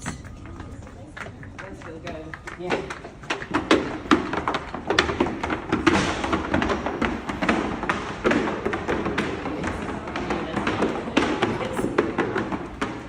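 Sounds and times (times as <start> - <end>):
hooves clip-clopping on hard floor: 0.0 - 13.0.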